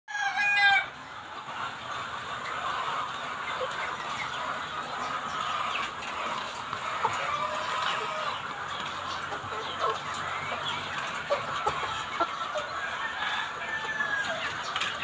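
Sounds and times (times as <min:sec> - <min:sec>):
chickens clucking: 0:00.1 - 0:15.0.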